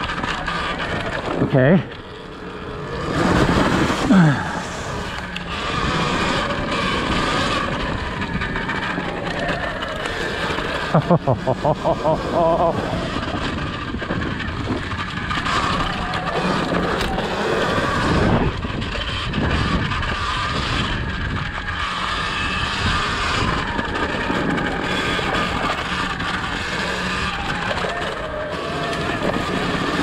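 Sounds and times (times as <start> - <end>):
electric dirt bike riding on trail: 0.0 - 30.0.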